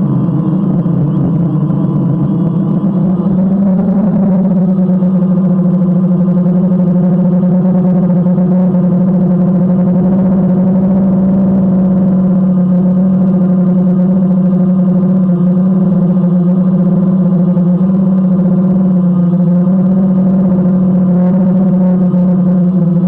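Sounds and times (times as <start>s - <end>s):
drone propellers humming: 0.0s - 23.0s.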